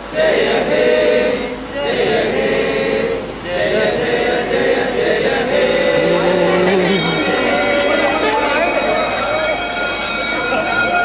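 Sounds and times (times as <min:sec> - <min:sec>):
voices singing slow melody: 0:00.0 - 0:11.0.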